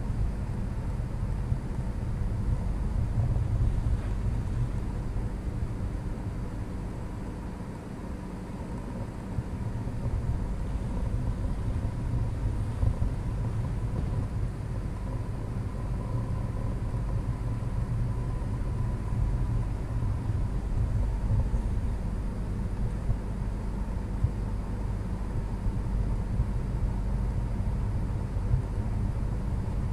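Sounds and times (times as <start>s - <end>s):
low rumble: 0.0s - 7.2s, 9.0s - 29.9s.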